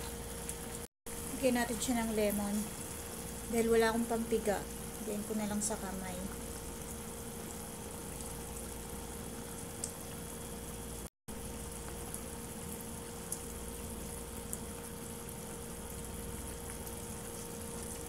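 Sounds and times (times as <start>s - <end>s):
bubbling in a frying pan: 0.0s - 18.0s.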